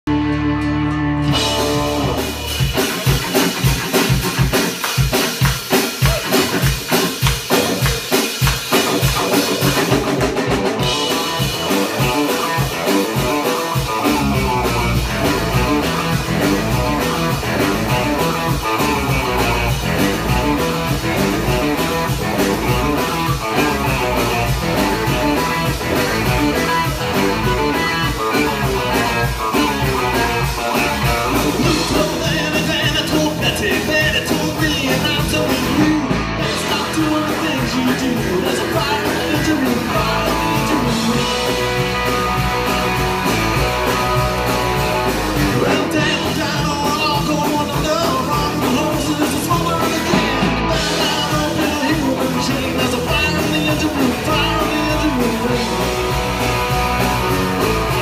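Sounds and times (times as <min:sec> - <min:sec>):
rock band playing: 0:00.0 - 0:58.0
steady drum beat: 0:00.3 - 0:58.0.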